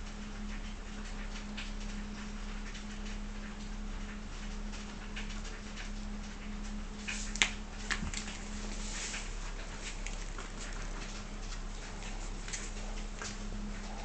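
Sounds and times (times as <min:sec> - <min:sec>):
kittens tapping and scratching: 0:00.4 - 0:14.0.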